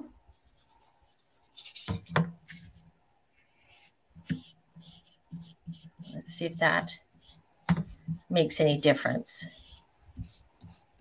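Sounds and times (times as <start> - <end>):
paintbrush scrubbing on paper: 0.2 - 11.0.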